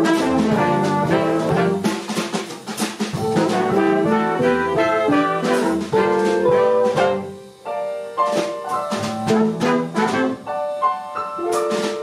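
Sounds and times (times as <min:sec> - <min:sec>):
drums: 0:00.0 - 0:12.0
jazz horn section: 0:00.0 - 0:12.0.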